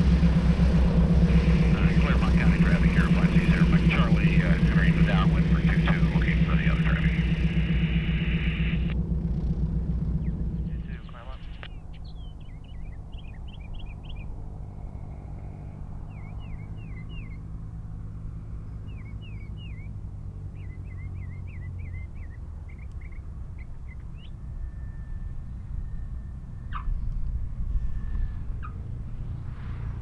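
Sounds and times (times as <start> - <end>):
propeller airplane engine droning: 0.0 - 30.0
small birds chirping: 1.4 - 9.0, 10.0 - 30.0.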